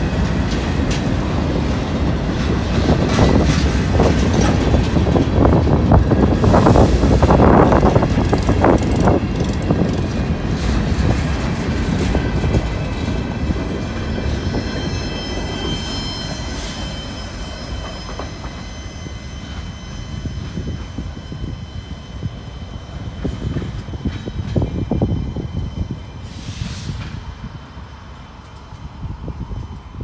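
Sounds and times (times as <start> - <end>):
freight train wheels clattering: 0.0 - 27.6.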